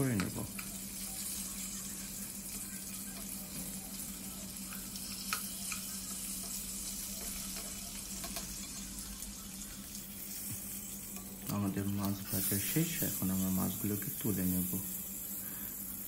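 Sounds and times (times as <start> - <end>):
fish sizzling in oil: 0.0 - 16.0
steady low hum: 0.0 - 16.0.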